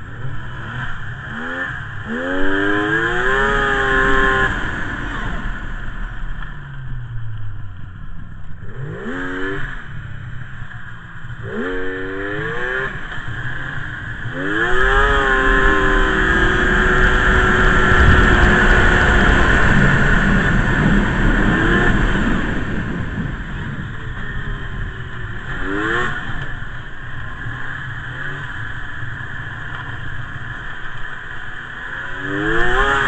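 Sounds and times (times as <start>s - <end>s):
snowmobile engine revving: 0.0s - 5.9s, 8.6s - 9.9s, 11.4s - 33.0s
track and wind rush: 0.0s - 33.0s.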